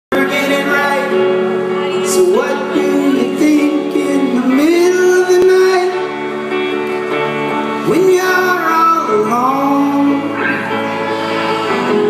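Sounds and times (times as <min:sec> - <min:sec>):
rock band playing live: 0:00.1 - 0:12.0.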